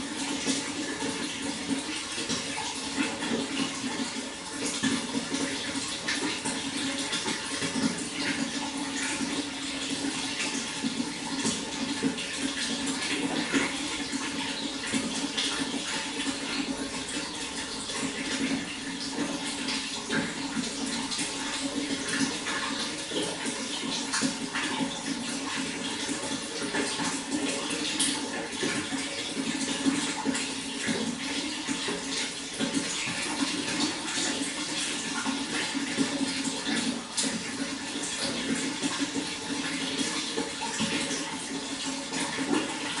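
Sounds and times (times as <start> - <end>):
running water splashing: 0.0 - 43.0.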